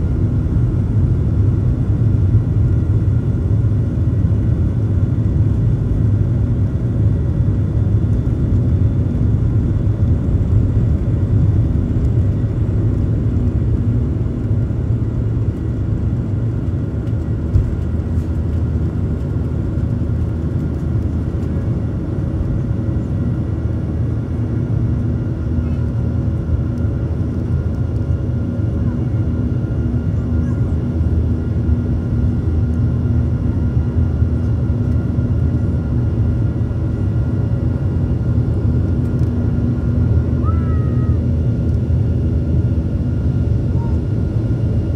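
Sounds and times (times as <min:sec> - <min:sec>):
jet engines roaring at takeoff: 0:00.0 - 0:44.9.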